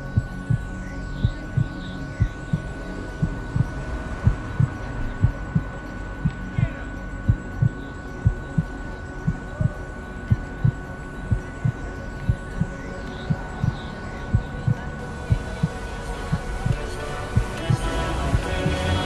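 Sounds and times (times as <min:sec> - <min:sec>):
faint background hum: 0:00.0 - 0:19.0
heartbeat thumps: 0:00.0 - 0:19.0.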